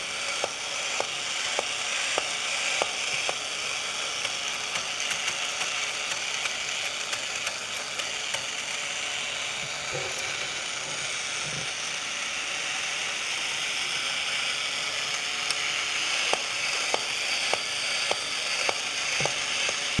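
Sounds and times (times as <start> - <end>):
toy motor whirring: 0.0 - 20.0.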